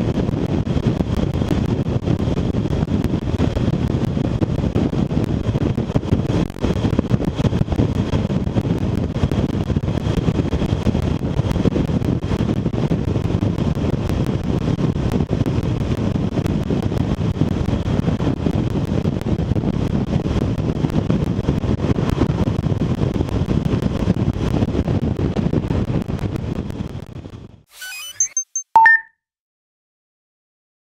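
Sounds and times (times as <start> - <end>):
wind buffeting microphone: 0.0 - 27.0
low rumble of motorcycle and road: 0.0 - 27.2.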